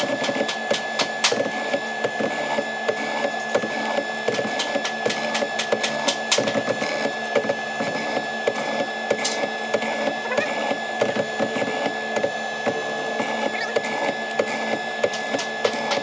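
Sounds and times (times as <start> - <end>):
mortising machine running: 0.0 - 16.0.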